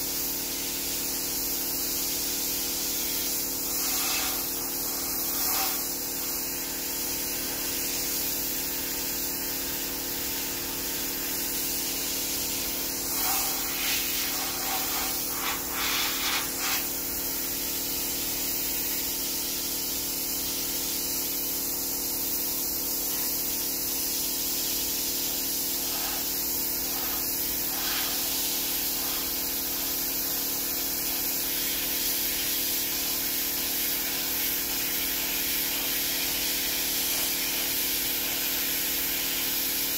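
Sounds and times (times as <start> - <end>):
sandblaster hiss on metal: 0.0 - 39.9.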